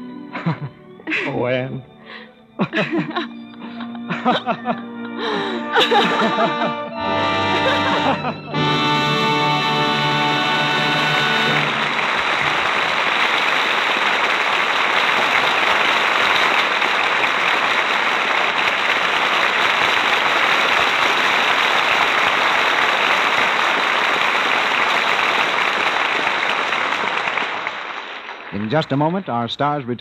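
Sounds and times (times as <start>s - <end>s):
audience applauding: 2.1s - 30.0s.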